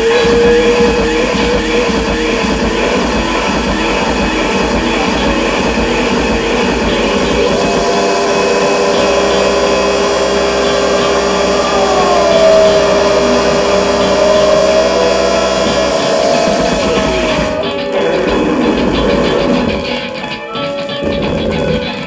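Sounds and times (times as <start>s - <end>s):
distorted guitar and turntable noise: 0.0s - 22.0s
droning held tones: 0.0s - 22.0s.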